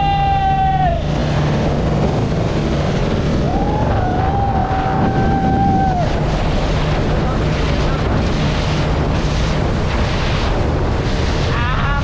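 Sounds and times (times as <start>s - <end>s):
motorboat engine rumble: 0.0s - 12.0s
water rushing past hull: 0.0s - 12.0s.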